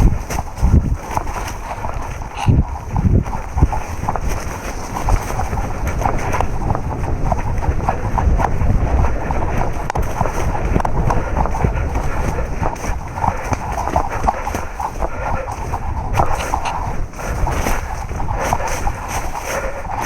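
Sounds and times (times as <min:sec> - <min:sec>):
low rumble on microphone: 0:00.0 - 0:20.0
rustling: 0:00.0 - 0:20.0.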